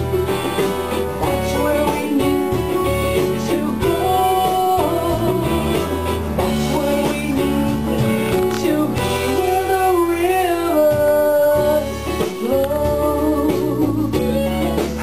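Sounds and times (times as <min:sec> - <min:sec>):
guitar accompaniment: 0:00.0 - 0:15.0
woman singing: 0:00.0 - 0:15.0.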